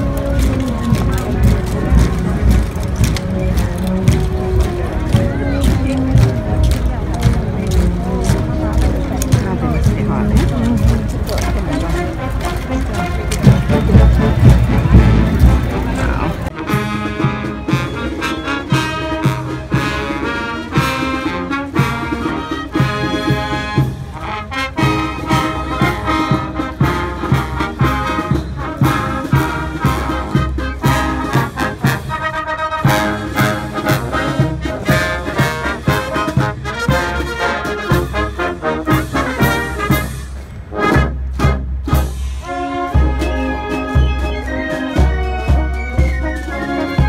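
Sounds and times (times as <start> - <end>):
brass marching band playing: 0.0 - 47.0.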